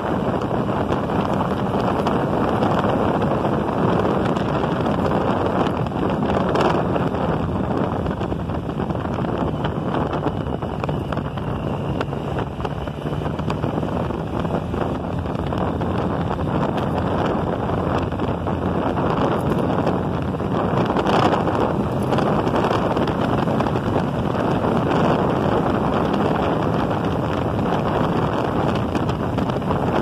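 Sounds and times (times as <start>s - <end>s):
motorcycle engine drone: 0.0s - 30.0s
wind rushing over microphone: 0.0s - 30.0s.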